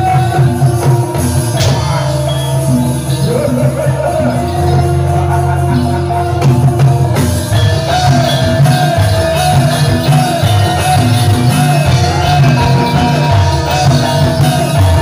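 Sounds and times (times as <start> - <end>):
deep bass line: 0.0 - 15.0
drums: 0.0 - 15.0
gamelan ensemble music: 0.0 - 15.0.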